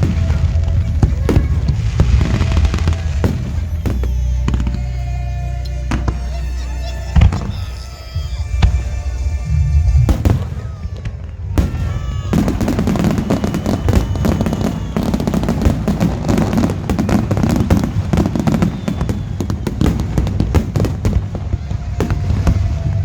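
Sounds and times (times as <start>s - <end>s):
firework bursts: 0.0s - 23.0s
fireworks crackling and popping: 0.0s - 23.0s.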